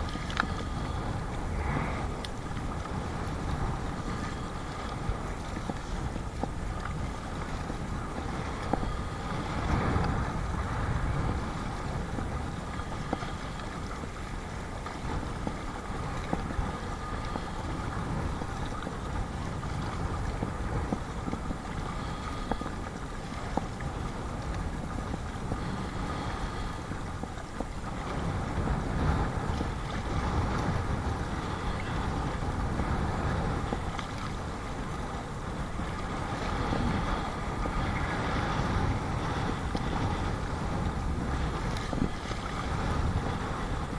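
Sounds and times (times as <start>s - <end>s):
water splashing around kayak: 0.0s - 43.9s
wind buffeting microphone: 0.0s - 43.9s.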